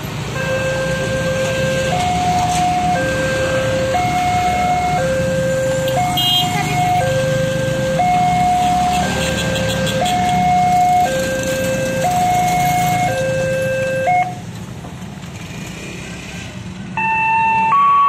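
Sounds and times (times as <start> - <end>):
motorbike and car engines: 0.0 - 18.0
two-tone crossing alarm: 0.3 - 14.4, 17.0 - 18.0.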